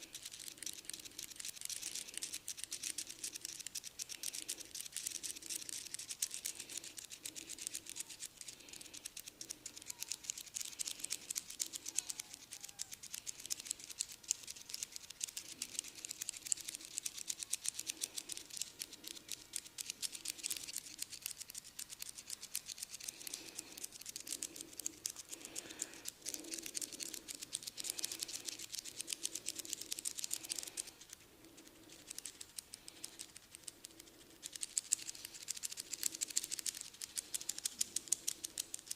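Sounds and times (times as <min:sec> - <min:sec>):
hair crackling against scalp: 0:00.0 - 0:38.9.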